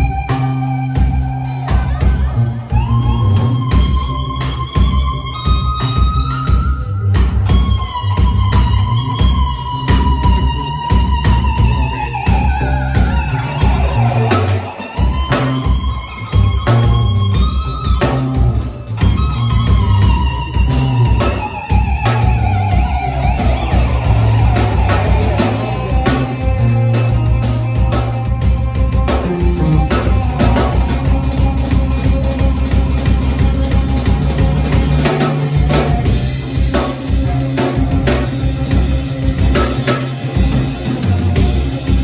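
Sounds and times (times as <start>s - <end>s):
drums: 0.0s - 42.0s
guitar: 0.0s - 42.0s
steady low bass notes: 0.0s - 42.0s
fiddle sliding notes: 1.5s - 38.4s.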